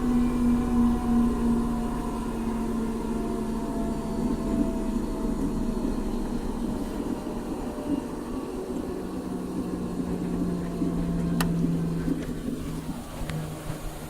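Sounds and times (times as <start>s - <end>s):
wash and water tumbling: 0.0s - 14.0s
washing machine motor humming: 0.0s - 14.0s.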